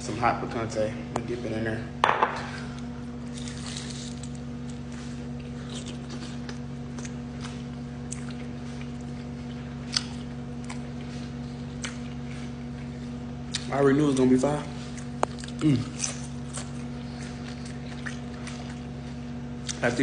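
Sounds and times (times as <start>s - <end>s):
electrical hum: 0.0s - 20.0s
person chewing: 2.6s - 19.9s.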